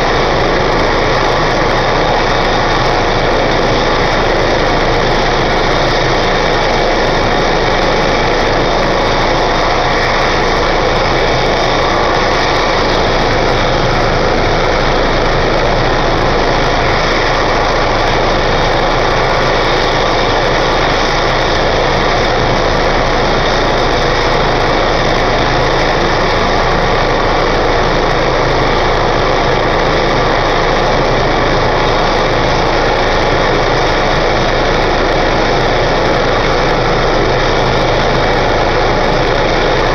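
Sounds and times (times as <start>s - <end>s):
helicopter turbine and rotor idling: 0.0s - 39.9s.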